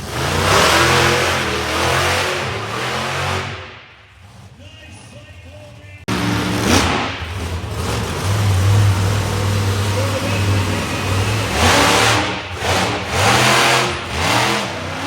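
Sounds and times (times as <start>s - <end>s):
monster truck engine running: 0.0s - 15.0s.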